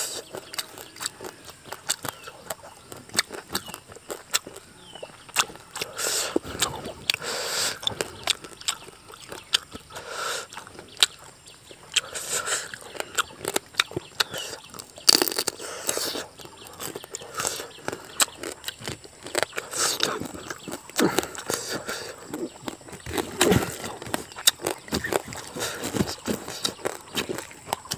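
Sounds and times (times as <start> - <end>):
chewing with wet mouth clicks: 0.0 - 27.9
sharp crunch: 0.0 - 27.9.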